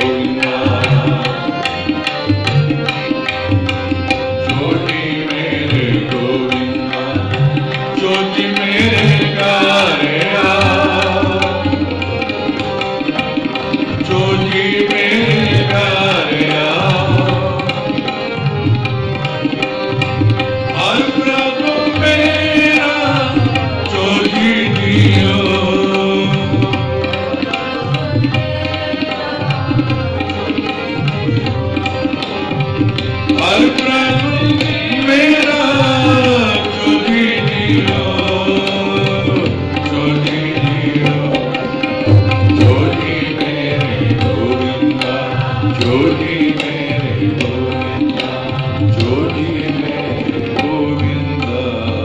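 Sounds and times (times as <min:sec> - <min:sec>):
harmonium chords: 0:00.0 - 0:52.0
person singing devotional melody: 0:00.0 - 0:52.0
tabla rhythm: 0:00.0 - 0:52.0.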